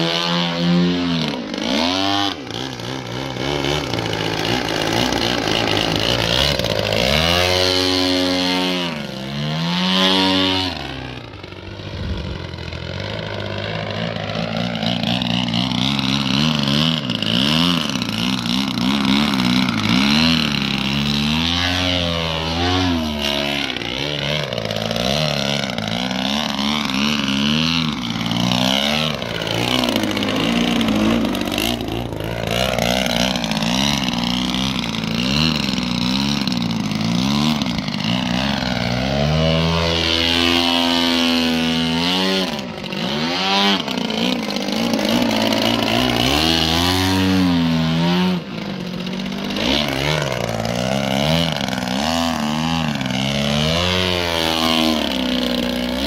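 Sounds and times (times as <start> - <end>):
model plane engine revving: 0.0 - 56.0.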